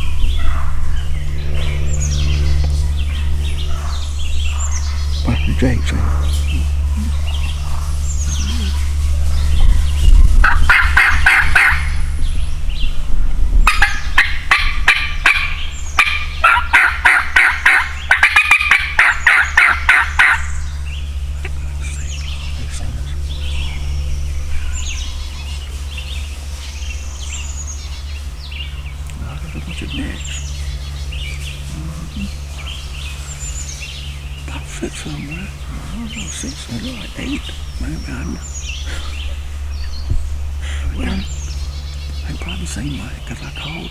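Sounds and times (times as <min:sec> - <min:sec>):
songbirds chirping: 0:00.0 - 0:43.9
turkeys gobbling: 0:00.0 - 0:43.9.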